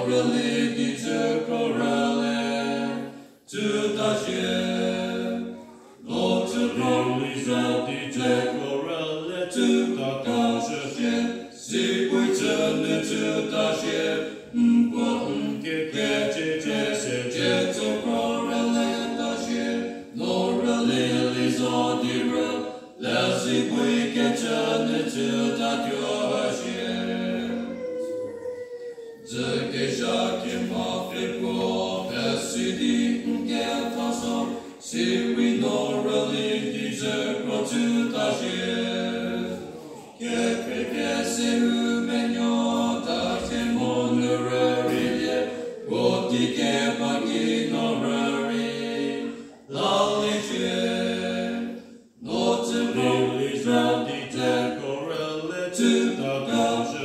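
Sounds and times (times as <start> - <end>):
men singing a cappella: 0.0 - 27.9, 29.2 - 57.0.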